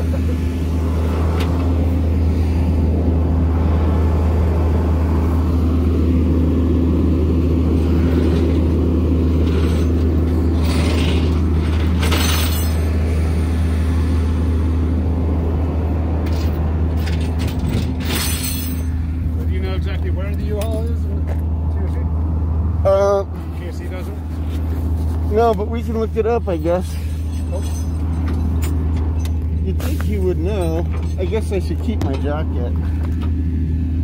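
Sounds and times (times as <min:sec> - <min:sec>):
vehicle engine idling: 0:00.0 - 0:34.0.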